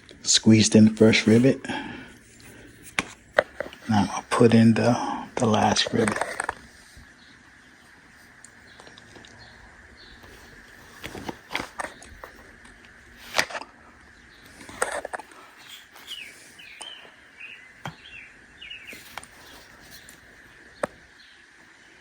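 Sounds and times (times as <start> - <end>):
small birds chirping: 3.4 - 22.0.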